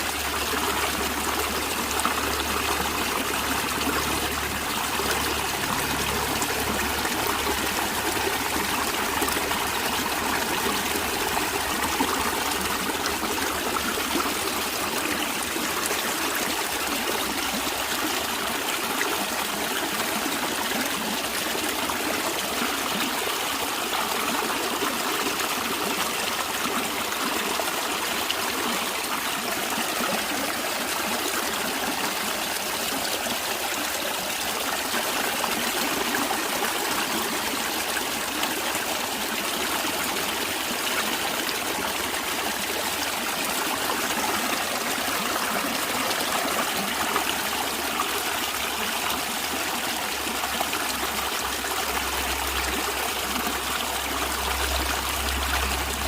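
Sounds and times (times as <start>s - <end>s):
stream water flowing and trickling: 0.0s - 56.0s.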